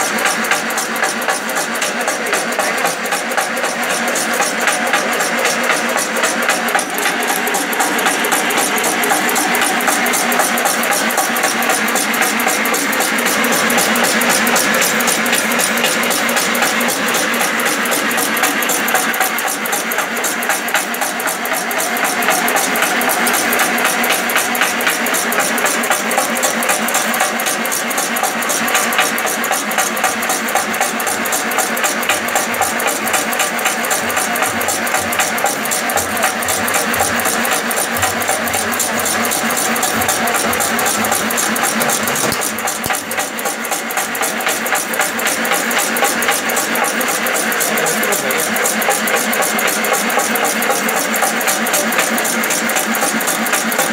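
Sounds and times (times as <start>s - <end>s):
motor hum: 0.0s - 50.2s
machine mechanism clattering: 0.0s - 53.9s.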